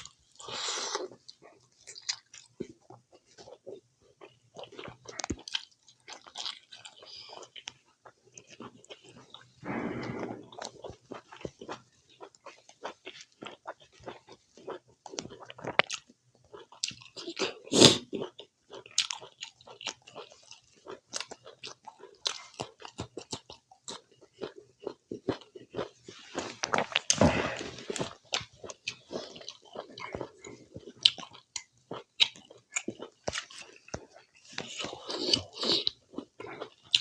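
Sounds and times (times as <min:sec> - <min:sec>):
person chewing and crunching: 0:00.0 - 0:37.0.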